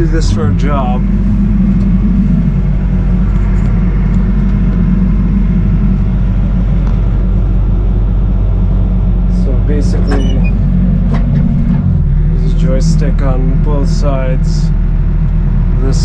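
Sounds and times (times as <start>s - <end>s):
diesel engine low rumble: 0.0s - 16.0s.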